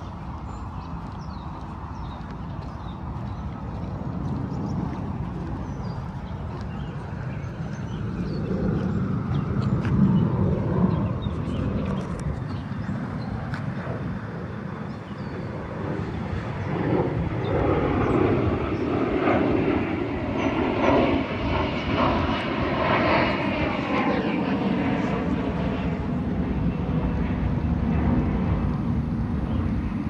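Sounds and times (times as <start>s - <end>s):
airplane engines droning overhead: 0.0s - 30.0s.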